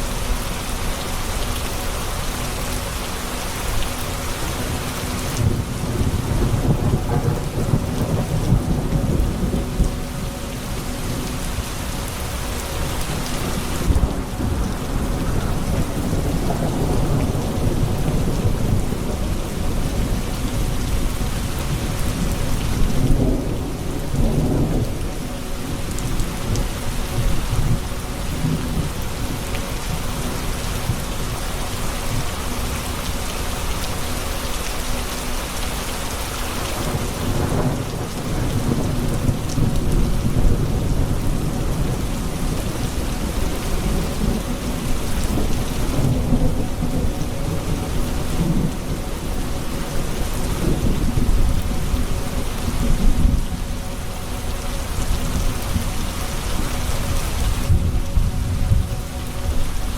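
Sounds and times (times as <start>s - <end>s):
rain pouring down: 0.0s - 59.9s
low rolling thunder: 4.3s - 34.6s, 35.5s - 59.9s.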